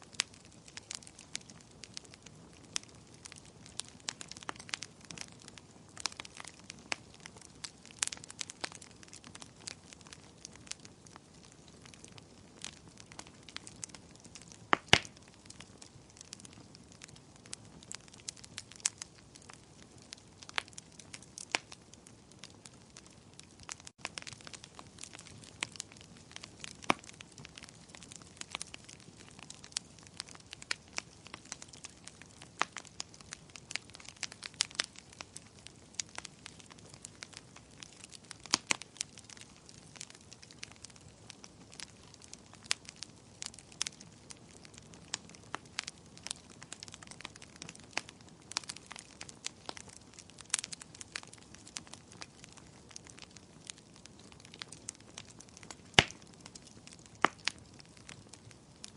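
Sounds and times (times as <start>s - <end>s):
fire crackling and popping: 0.0s - 58.9s
soft steady fire hiss: 0.0s - 58.9s.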